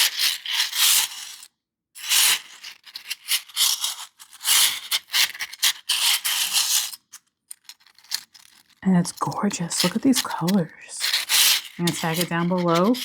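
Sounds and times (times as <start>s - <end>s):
plastic pieces rattling and clicking: 2.4s - 13.0s.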